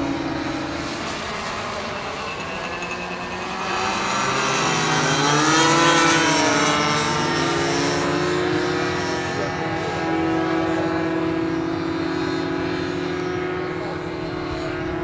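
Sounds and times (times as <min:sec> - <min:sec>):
model plane engines buzzing overhead: 0:00.0 - 0:15.0.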